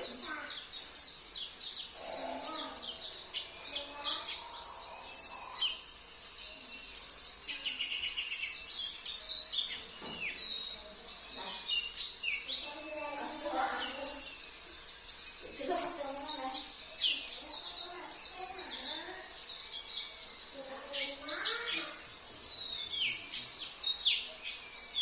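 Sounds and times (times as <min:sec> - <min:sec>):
buzzy bird trill: 0:00.0 - 0:25.0
songbirds chirping and trilling: 0:00.0 - 0:25.0.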